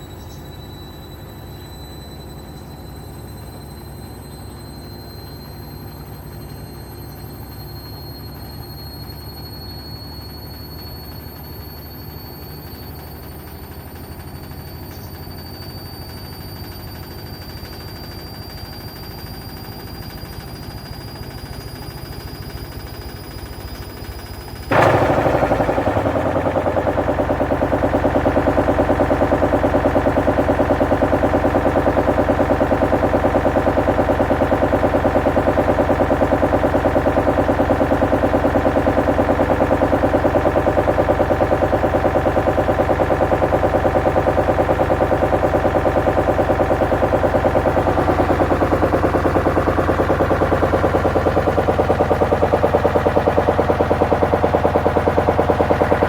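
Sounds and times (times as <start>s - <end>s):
washing machine spinning: 4.3s - 56.0s.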